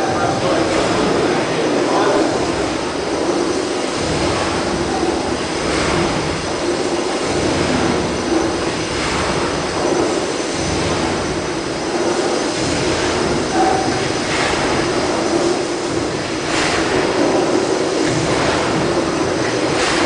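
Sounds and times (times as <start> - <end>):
steam engine hissing and rumbling: 0.0 - 20.0.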